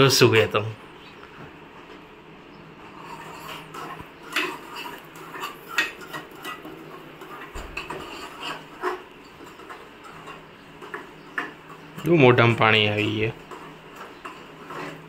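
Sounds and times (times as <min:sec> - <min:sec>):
metal utensils and pots clinking: 0:02.9 - 0:15.0.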